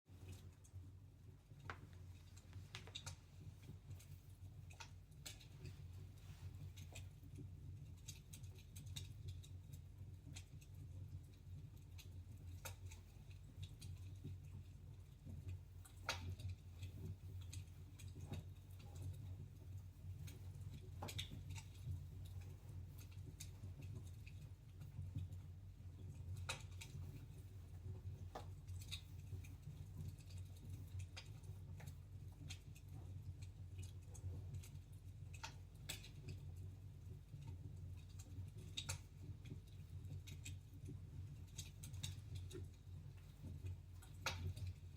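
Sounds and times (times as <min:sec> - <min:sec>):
low steady rumble: 0:00.1 - 0:44.9
wood fire crackling: 0:00.1 - 0:44.9
fire snaps and pops: 0:00.2 - 0:44.9.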